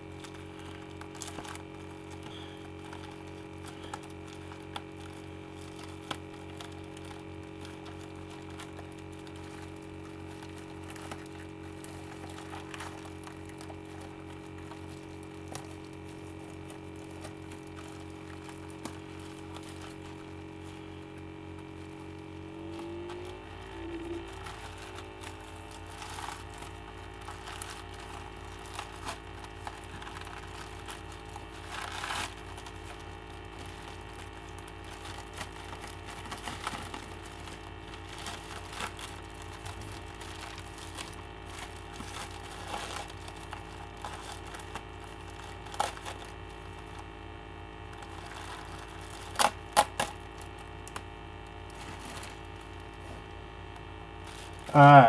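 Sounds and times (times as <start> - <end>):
low electrical hum: 0.0 - 55.0
packaging crinkling and tearing: 0.0 - 55.0.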